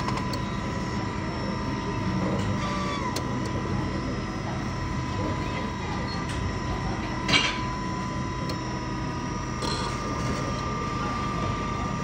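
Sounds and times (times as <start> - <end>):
machine whine and hum: 0.0 - 12.0.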